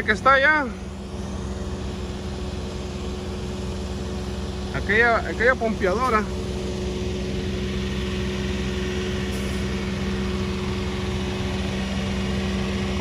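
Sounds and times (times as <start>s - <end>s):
pump and truck engines droning: 0.0s - 13.0s.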